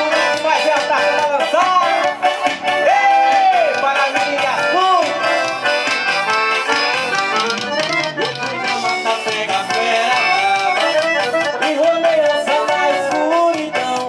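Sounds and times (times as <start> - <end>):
accordion-led band music: 0.0 - 14.0
driving drum beat: 0.0 - 14.0.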